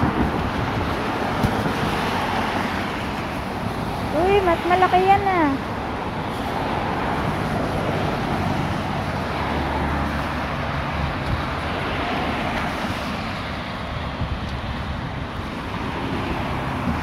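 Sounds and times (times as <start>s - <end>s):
cars driving on wet road: 0.0s - 17.0s.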